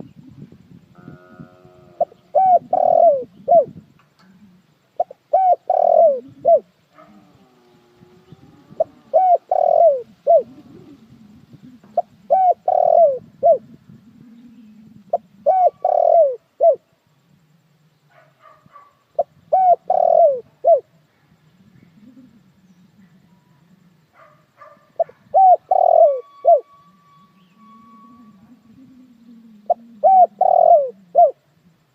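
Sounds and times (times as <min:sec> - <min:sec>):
dove cooing: 0:00.0 - 0:17.5, 0:19.1 - 0:21.0, 0:21.6 - 0:31.6.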